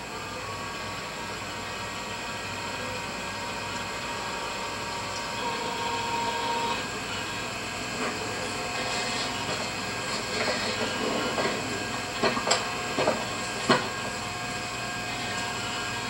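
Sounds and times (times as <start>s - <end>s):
mechanical motor drone: 0.0s - 16.0s.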